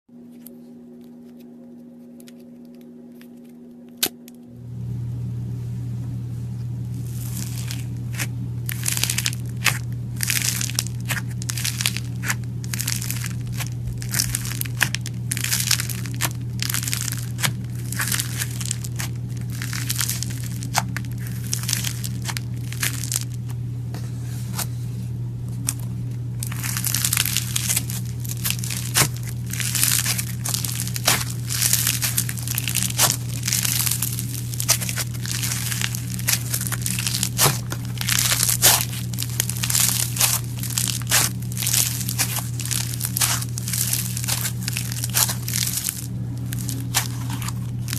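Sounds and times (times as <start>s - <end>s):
steady low hum: 0.1s - 47.9s.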